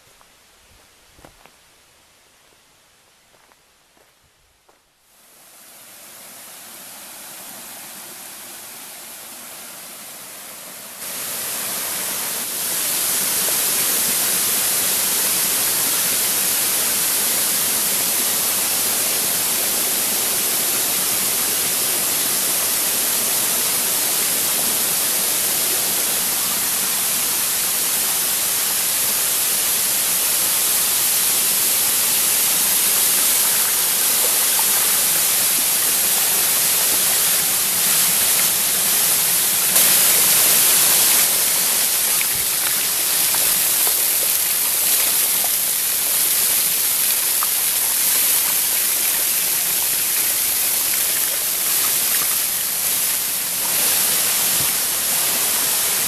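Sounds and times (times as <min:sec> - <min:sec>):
small waterfall splashing: 0:05.2 - 0:56.0.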